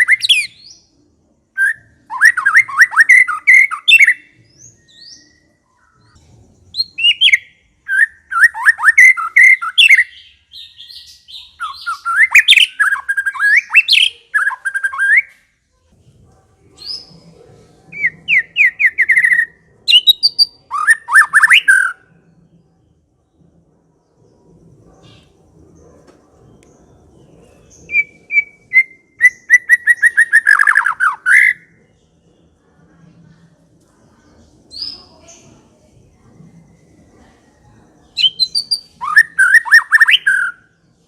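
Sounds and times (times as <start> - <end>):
bird singing: 0.0 - 15.4, 16.8 - 32.8, 34.2 - 41.0.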